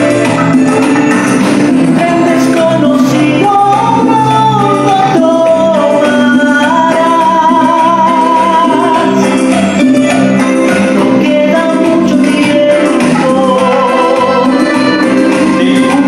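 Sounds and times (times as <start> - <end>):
backing track music: 0.0 - 16.0
man singing a ballad: 1.9 - 16.0.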